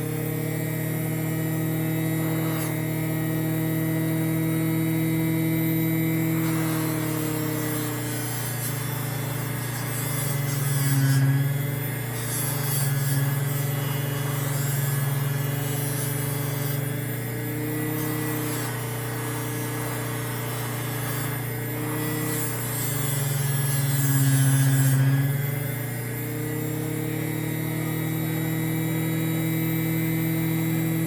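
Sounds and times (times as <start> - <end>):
bench motor humming: 0.0 - 31.0.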